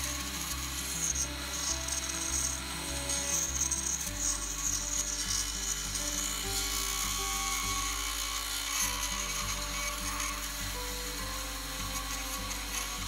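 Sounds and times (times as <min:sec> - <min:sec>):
file rasping on fibreglass: 0:00.0 - 0:13.0.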